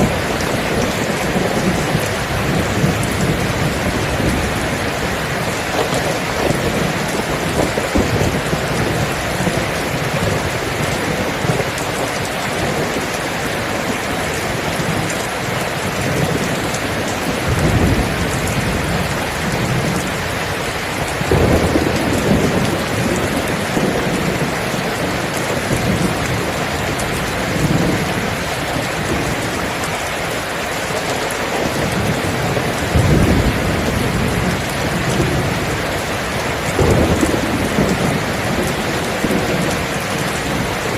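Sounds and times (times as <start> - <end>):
heavy rain falling: 0.0 - 40.9
thunder rumbling: 0.0 - 40.9.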